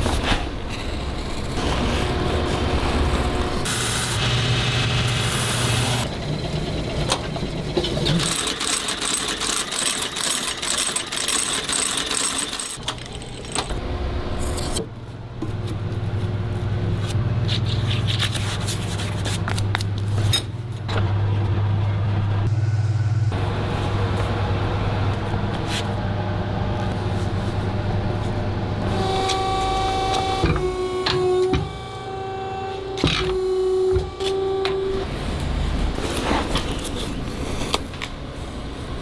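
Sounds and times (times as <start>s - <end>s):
machinery humming: 0.0s - 39.0s.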